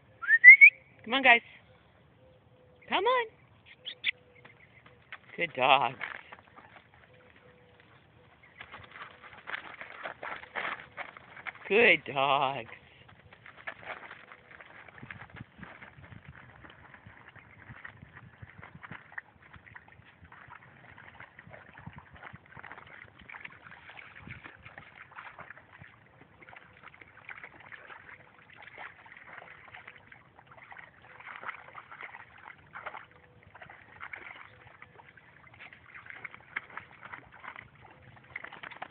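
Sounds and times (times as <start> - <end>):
water sloshing and splashing: 3.4 - 38.9.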